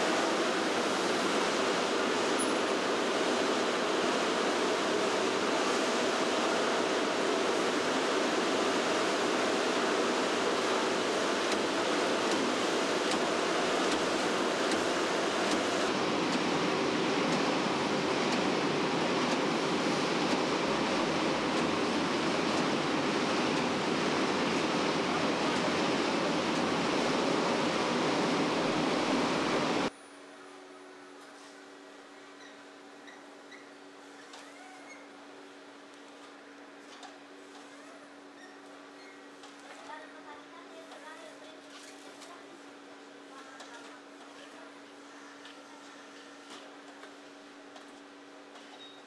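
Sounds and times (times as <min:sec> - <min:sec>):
faint machinery hum: 0:00.0 - 0:49.0.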